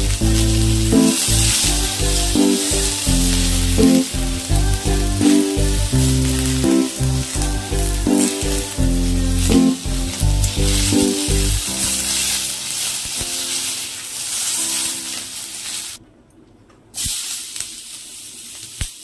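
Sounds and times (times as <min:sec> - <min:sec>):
food sizzling in hot oil: 0:00.0 - 0:16.0, 0:17.0 - 0:19.0.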